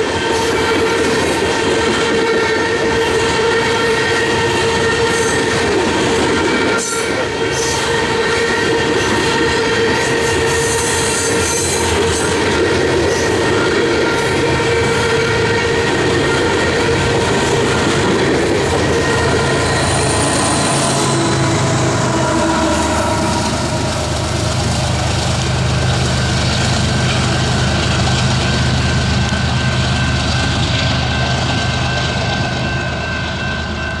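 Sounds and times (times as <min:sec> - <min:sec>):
diesel locomotive engine hum: 0:00.0 - 0:34.0
freight train wheels clattering: 0:00.0 - 0:34.0.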